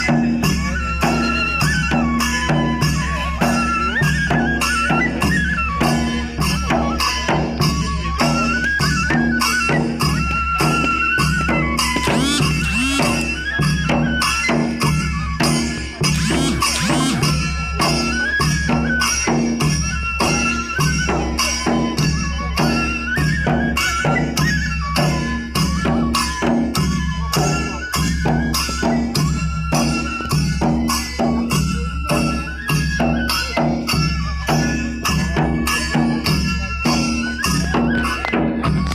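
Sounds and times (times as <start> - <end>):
folk music with drum beat: 0.0 - 38.9.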